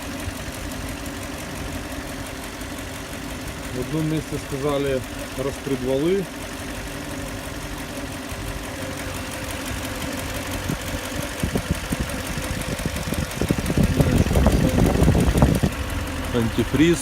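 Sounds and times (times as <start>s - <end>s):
engine idling: 0.0s - 17.0s
engine knocking: 0.0s - 17.0s.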